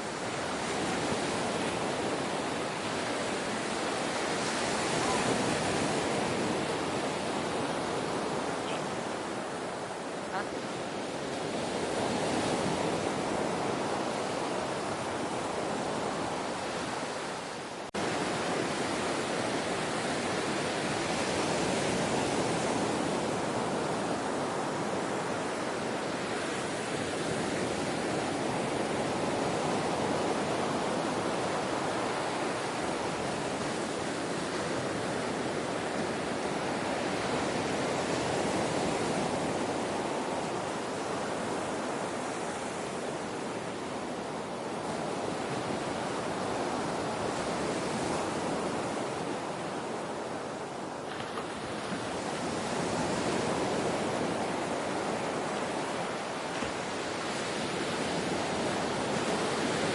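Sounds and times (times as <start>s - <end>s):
ocean waves washing onto shore: 0.0s - 59.9s.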